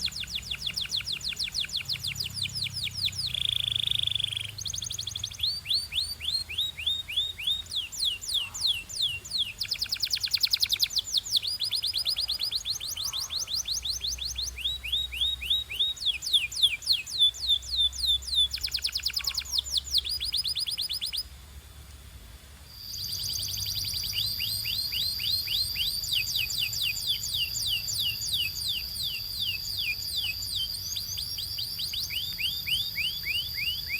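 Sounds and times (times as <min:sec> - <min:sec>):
canary singing: 0:00.0 - 0:21.3, 0:22.7 - 0:33.9.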